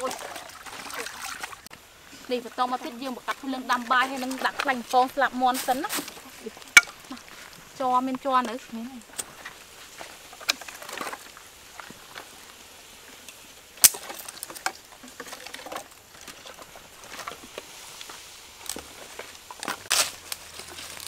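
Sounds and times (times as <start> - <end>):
firewood knocking and scraping: 1.7 - 21.0.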